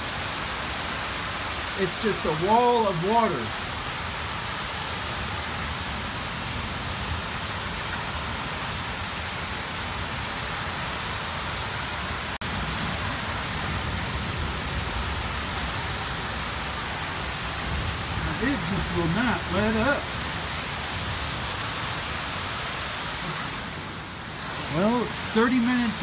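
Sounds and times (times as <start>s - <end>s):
torrential rain pouring: 0.0s - 26.0s.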